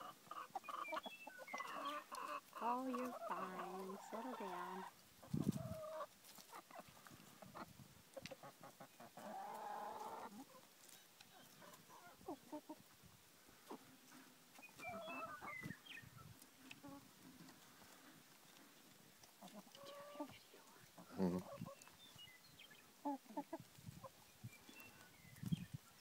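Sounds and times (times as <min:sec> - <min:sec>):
hens clucking: 0:00.0 - 0:22.2, 0:22.8 - 0:25.6.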